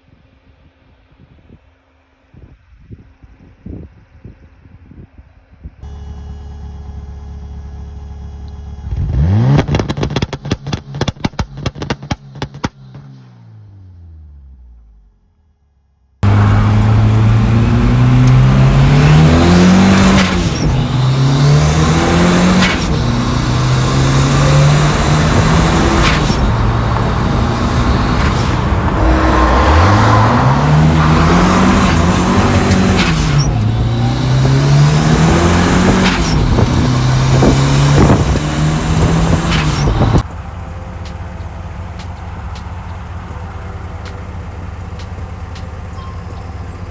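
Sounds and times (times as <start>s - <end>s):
car engine accelerating: 5.8s - 15.2s, 16.2s - 46.9s.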